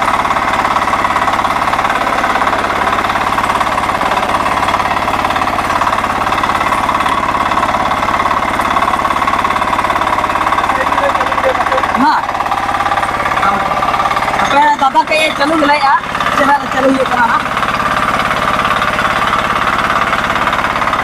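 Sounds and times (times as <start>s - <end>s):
diesel engine clattering: 0.0s - 21.0s.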